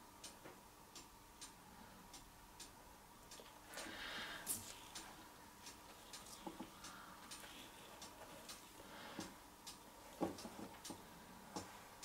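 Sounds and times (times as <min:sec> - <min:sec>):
faint light ticking: 0:00.1 - 0:12.0.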